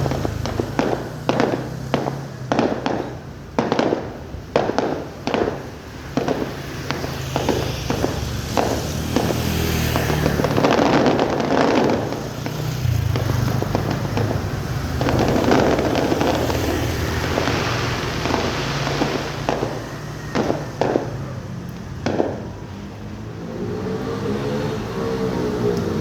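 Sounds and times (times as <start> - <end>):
fireworks bangs: 0.0 - 26.0
fireworks crackling: 0.0 - 26.0
low vehicle engine hum: 5.2 - 26.0.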